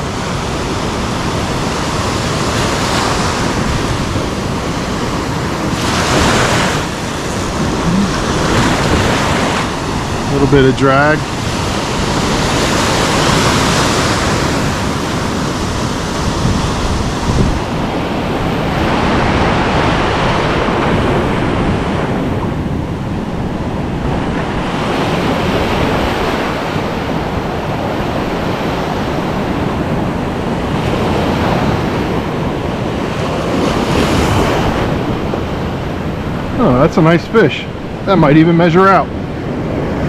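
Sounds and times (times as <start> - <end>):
surf breaking on beach: 0.0 - 40.0
wind buffeting microphone: 0.0 - 40.0.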